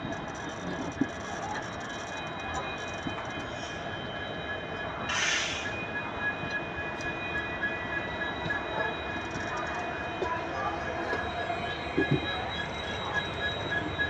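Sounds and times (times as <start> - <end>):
train running on track: 0.0 - 14.0.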